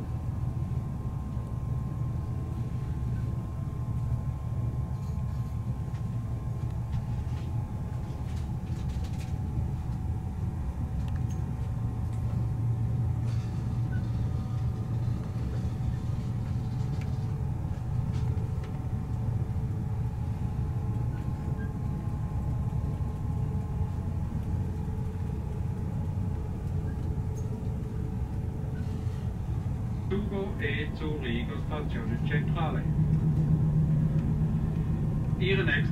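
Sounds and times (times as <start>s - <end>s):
faint steady whine: 0.0s - 35.9s
train wheels rumbling: 0.0s - 35.9s.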